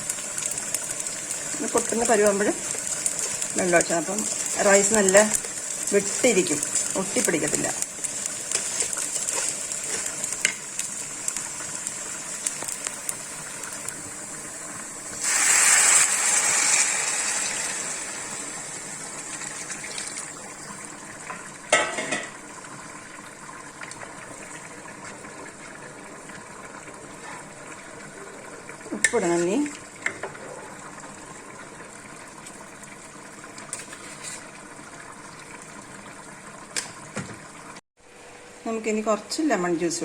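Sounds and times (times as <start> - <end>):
rice sizzling in hot ghee: 0.0 - 37.2.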